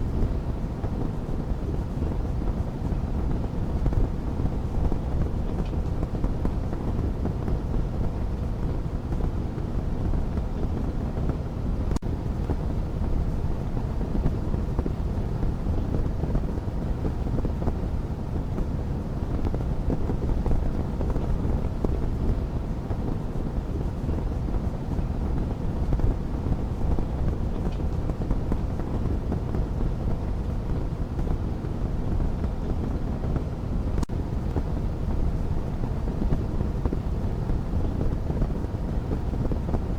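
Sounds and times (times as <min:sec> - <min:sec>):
fire burning in fireplace: 0:00.0 - 0:39.9
fire crackling and popping: 0:00.1 - 0:39.9.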